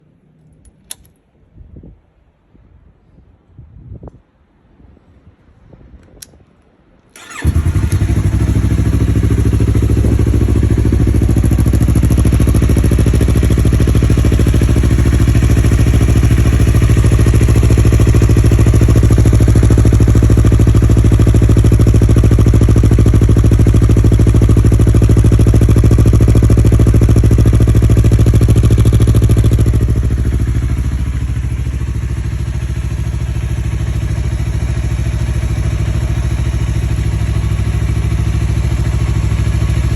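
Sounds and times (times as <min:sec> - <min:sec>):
motorcycle engine idling: 0:07.2 - 0:39.9.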